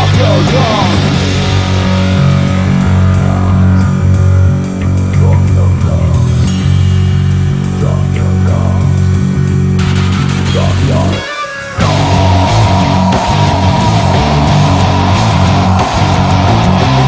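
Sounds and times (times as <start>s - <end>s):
drum kit with cymbal hits: 0.0s - 17.0s
electric guitars and bass: 0.0s - 17.0s.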